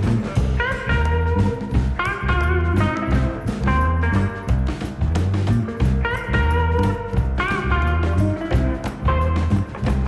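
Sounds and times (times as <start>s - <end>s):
blues guitar music with bass: 0.0s - 10.0s.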